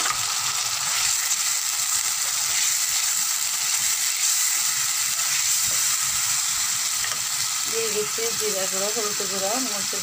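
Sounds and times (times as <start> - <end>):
paste frying in hot oil: 0.0 - 10.0.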